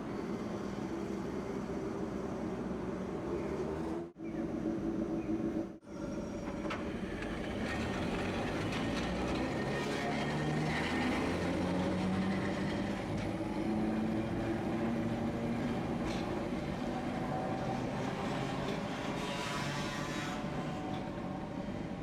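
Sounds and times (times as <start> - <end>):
streetcar rolling rumble: 0.0 - 22.0.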